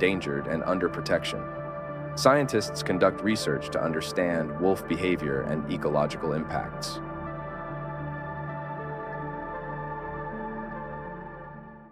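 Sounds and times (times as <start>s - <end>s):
ambient music with held notes: 0.0s - 11.9s.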